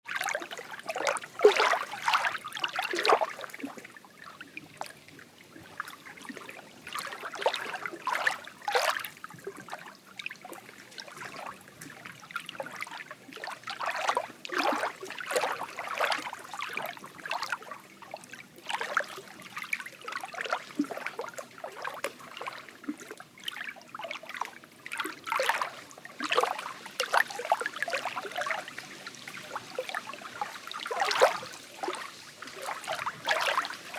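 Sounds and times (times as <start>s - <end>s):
lake water lapping: 0.1s - 33.9s.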